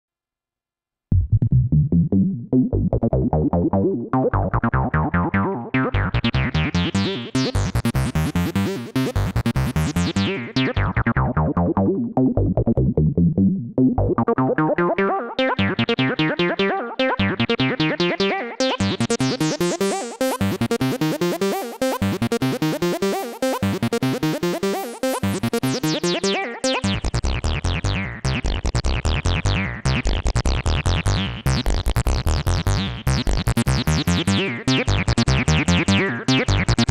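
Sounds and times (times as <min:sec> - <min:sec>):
synthesizer acid bassline: 0:01.1 - 0:36.9.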